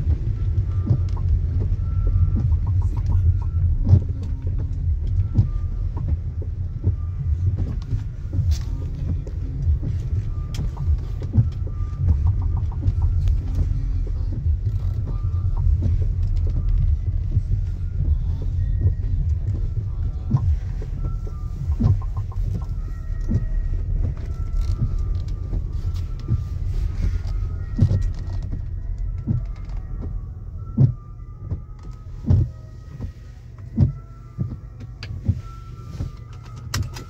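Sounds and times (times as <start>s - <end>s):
car engine and road rumble: 0.0s - 37.0s
music with thumping beat: 0.0s - 37.0s.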